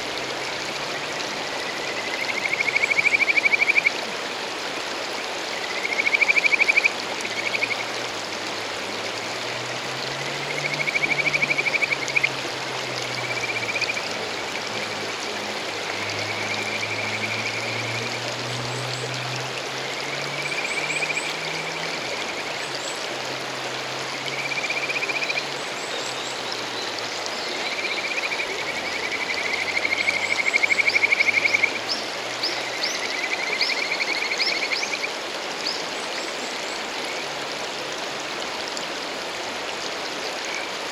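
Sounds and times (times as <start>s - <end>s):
frogs trilling: 0.0s - 4.3s, 5.0s - 38.2s
rushing mountain stream: 0.0s - 40.9s.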